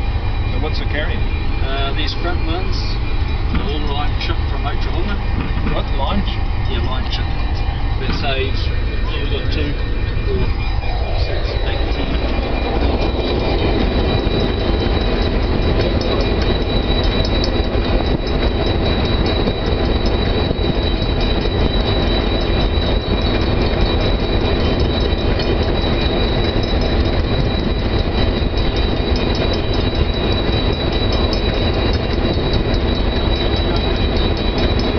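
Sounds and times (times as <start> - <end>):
locomotive engine rumble: 0.0 - 34.9
thin high whine: 0.0 - 34.9
wheels clicking on rails: 0.0 - 34.9.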